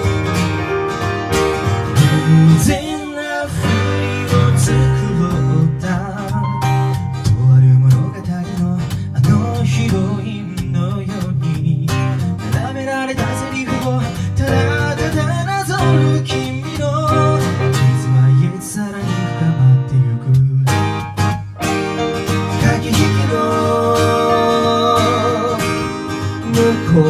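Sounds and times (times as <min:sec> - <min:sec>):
acoustic guitar song: 0:00.0 - 0:27.0.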